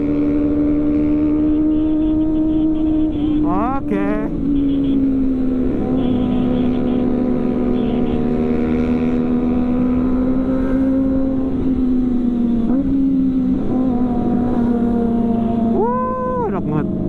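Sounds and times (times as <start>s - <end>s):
motorcycle engine high-revving: 0.0s - 17.0s.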